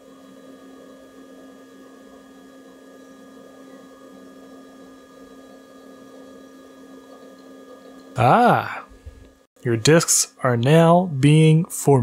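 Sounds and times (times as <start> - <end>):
computer humming and whirring: 0.0 - 12.0.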